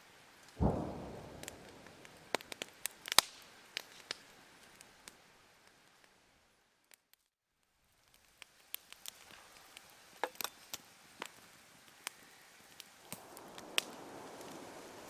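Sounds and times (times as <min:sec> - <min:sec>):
low fire hiss: 0:00.0 - 0:15.0
campfire crackling and popping: 0:00.2 - 0:15.0.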